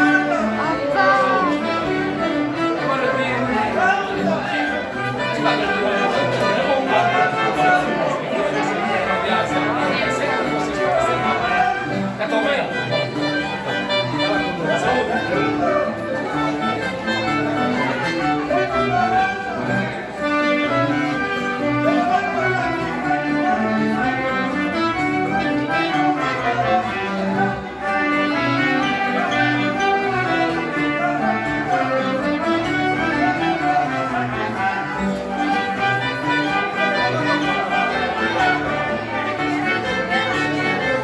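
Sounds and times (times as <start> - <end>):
live folk dance band: 0.0 - 41.0.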